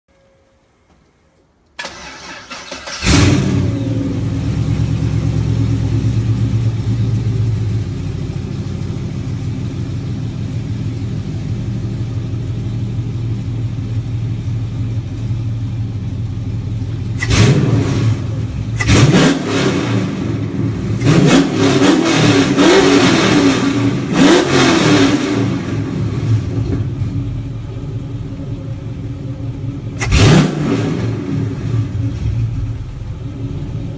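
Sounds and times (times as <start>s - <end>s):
car engine revving: 1.8s - 12.1s, 16.8s - 33.9s
car engine idling: 1.8s - 33.9s
car engine starting: 1.8s - 33.9s.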